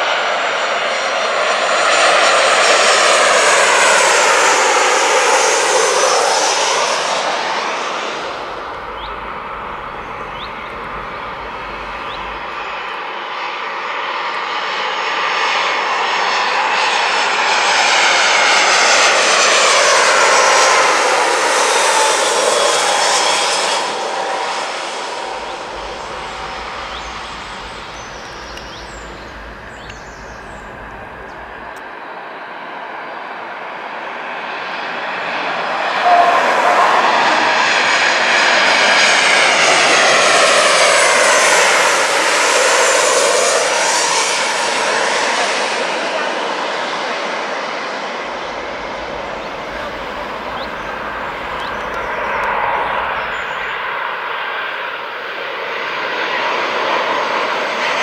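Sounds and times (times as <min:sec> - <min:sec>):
jet airliners passing overhead: 0:00.0 - 0:58.0.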